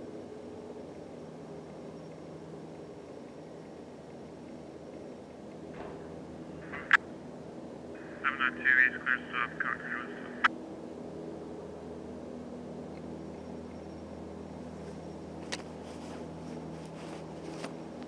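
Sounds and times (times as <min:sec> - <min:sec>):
distant diesel locomotive drone: 0:00.0 - 0:18.0.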